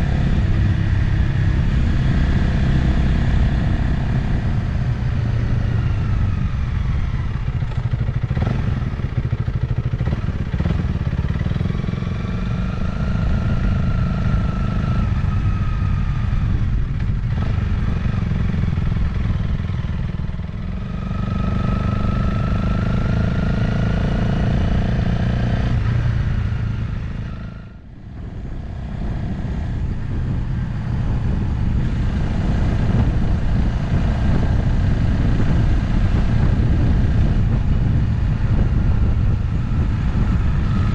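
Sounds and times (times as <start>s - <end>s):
motorcycle engine running: 0.0s - 40.9s
wind rumble: 0.0s - 40.9s.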